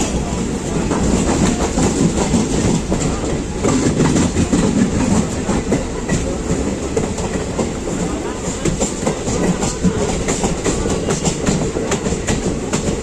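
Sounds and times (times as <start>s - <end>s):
train rumbling on track: 0.0s - 13.0s
wheels clacking over rail joints: 0.0s - 13.0s.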